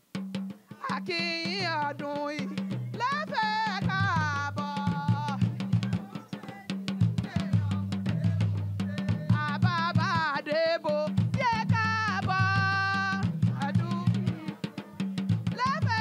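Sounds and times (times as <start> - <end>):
drums and percussion: 0.0 - 16.0
women singing: 0.7 - 16.0.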